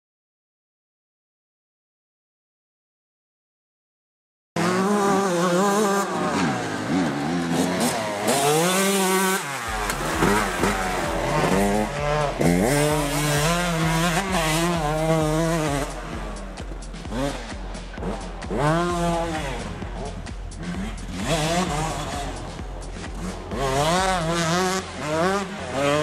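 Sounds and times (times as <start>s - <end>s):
dirt bike engine revving: 4.6s - 26.0s.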